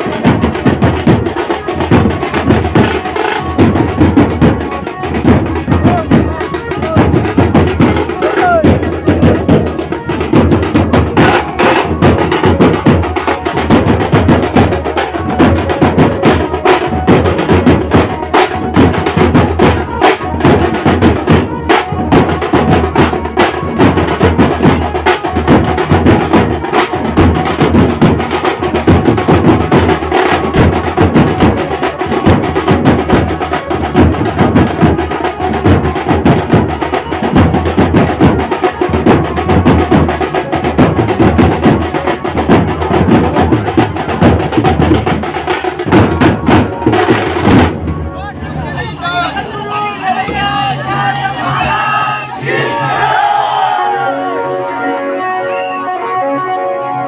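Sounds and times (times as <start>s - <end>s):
bass drum: 0.0s - 49.4s
side drums beaten with sticks: 0.0s - 54.6s
crowd voices: 0.0s - 57.0s.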